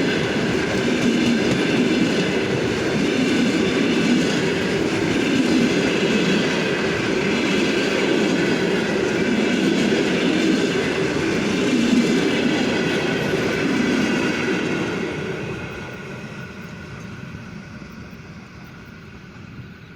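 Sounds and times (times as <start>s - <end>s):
train wheels on steel rails: 0.0s - 19.9s.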